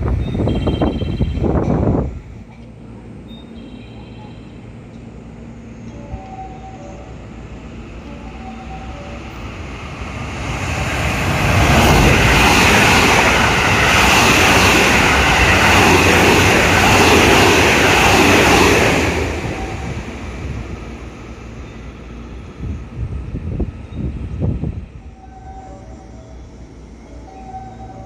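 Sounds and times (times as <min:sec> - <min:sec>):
train passing close by: 0:00.0 - 0:28.0.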